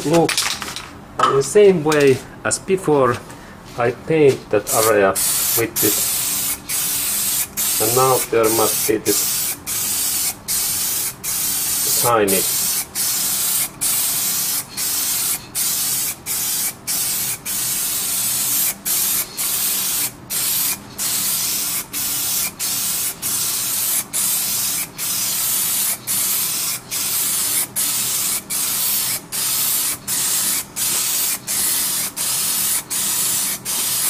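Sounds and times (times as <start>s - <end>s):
aerosol spray can hissing: 4.7s - 34.0s.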